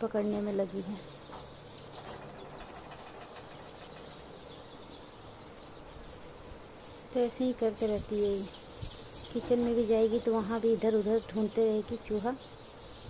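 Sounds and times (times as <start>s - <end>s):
faint birds chirping: 0.0s - 13.0s
steady background hiss: 0.0s - 13.0s.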